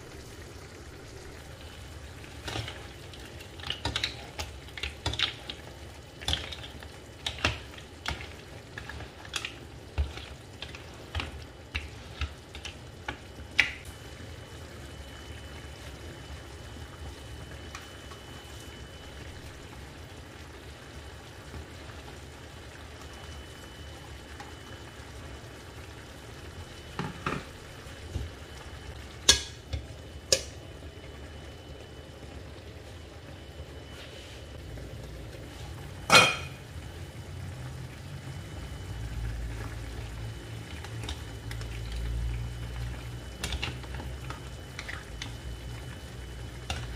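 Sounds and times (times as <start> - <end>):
pan sizzling: 0.0 - 46.9.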